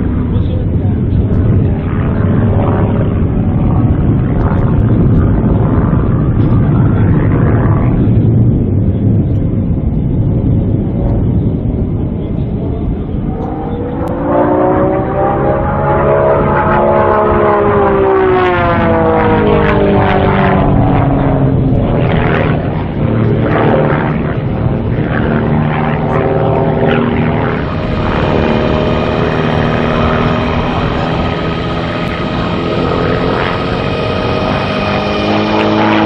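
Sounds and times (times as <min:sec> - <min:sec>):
propeller plane droning overhead: 0:00.0 - 0:36.0.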